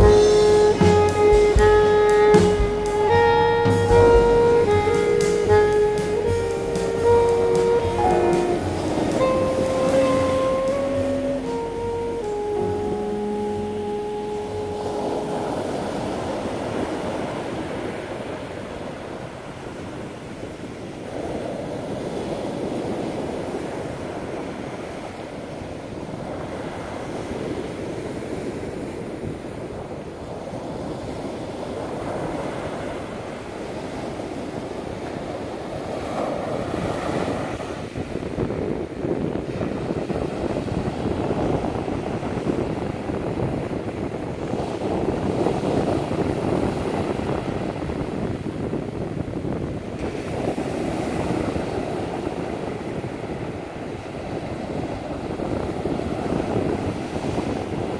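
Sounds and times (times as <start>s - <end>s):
ocean surf breaking: 0.0s - 57.9s
wind buffeting microphone: 0.0s - 57.9s.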